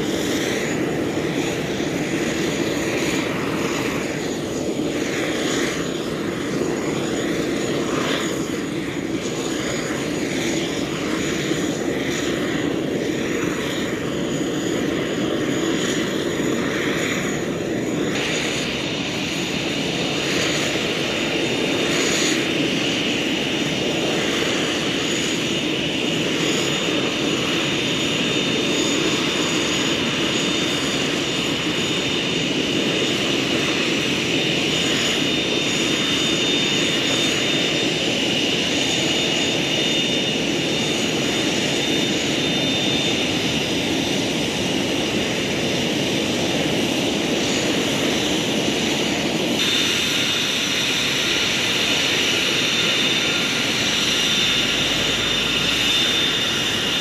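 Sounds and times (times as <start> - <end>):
high turbine whine: 0.0 - 57.0
jet engines rushing: 0.0 - 57.0.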